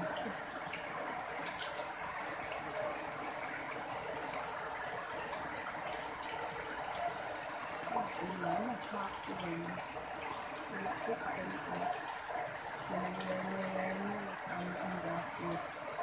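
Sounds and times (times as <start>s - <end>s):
water gushing and splashing: 0.0s - 16.0s.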